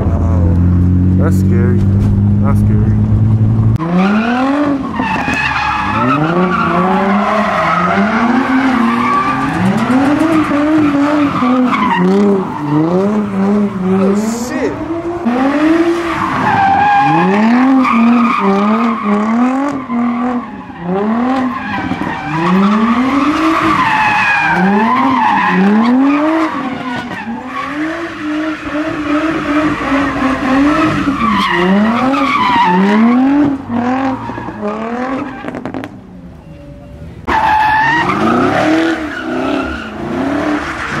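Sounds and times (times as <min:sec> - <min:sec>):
car engine revving hard: 0:00.0 - 0:35.9, 0:38.0 - 0:41.0
tires squealing and skidding: 0:03.8 - 0:35.9, 0:37.2 - 0:41.0.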